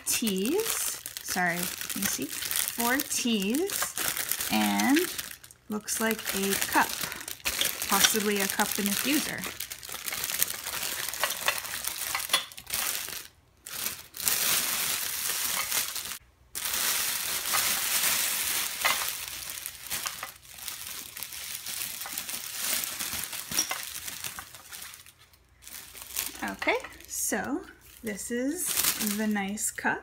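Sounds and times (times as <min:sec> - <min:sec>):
wrapping crinkling and rustling: 0:00.0 - 0:29.9.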